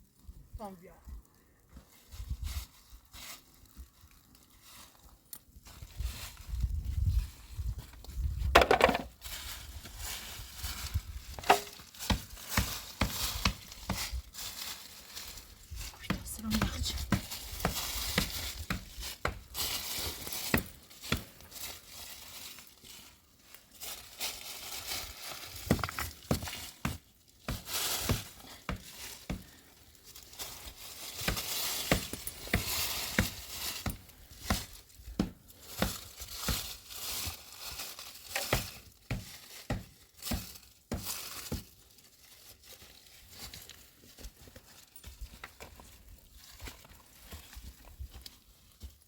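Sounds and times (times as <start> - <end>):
rustling and crinkling: 0.0 - 49.0.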